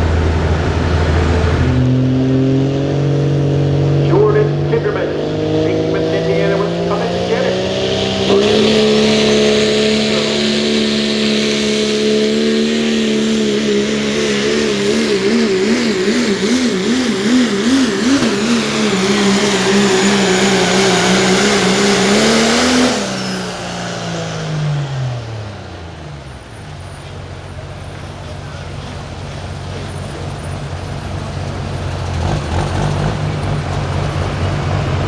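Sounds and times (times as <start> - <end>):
diesel truck engine under load: 0.0 - 35.0.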